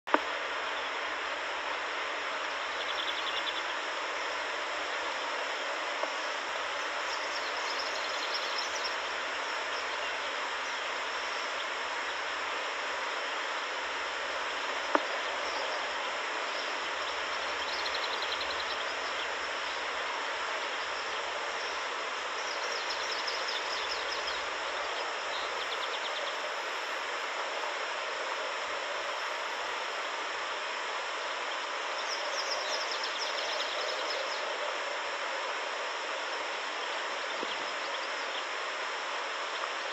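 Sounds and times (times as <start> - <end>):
wind hiss on microphone: 0.1 - 39.9.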